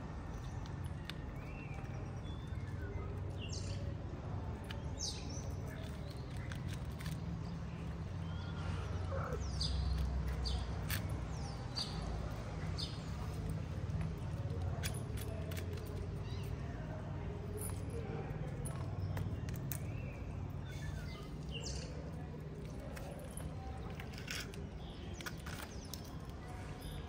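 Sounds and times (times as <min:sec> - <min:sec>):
small birds chirping: 0:00.2 - 0:27.0.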